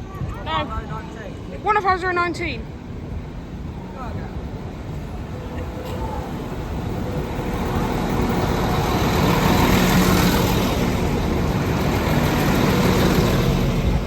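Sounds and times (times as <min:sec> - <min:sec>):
train engine and wheel noise: 0:00.0 - 0:14.0.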